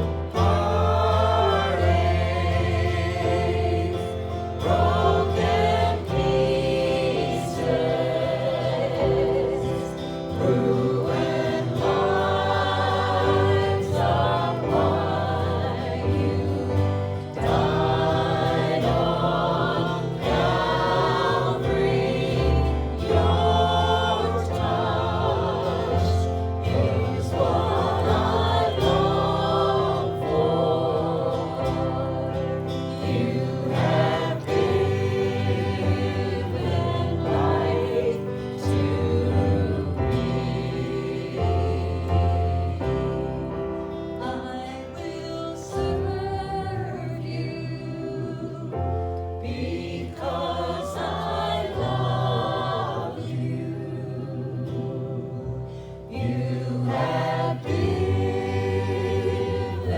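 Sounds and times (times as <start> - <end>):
choir singing a gospel hymn: 0.0 - 59.9
instrumental accompaniment with bass: 0.0 - 59.9.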